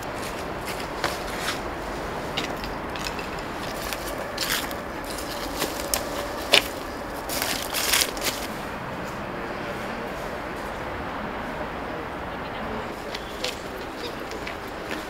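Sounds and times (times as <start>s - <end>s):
dry leaves rustling and crackling: 0.0s - 11.7s, 12.8s - 15.0s.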